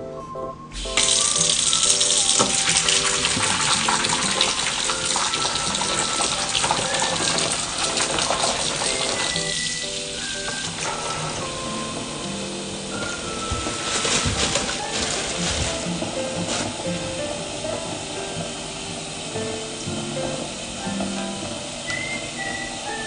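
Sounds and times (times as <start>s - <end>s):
background music: 0.0s - 23.0s
kitchen tap running: 0.8s - 23.0s.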